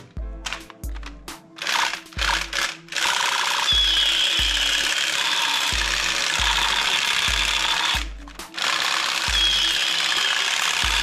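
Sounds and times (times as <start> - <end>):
toy gun electronic gunfire: 1.6 - 11.0.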